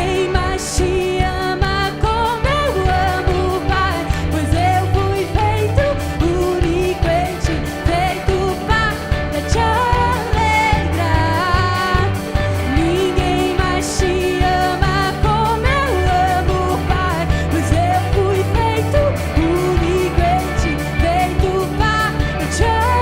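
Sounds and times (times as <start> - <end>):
band with bass and drums: 0.0 - 23.0
person singing: 0.0 - 23.0.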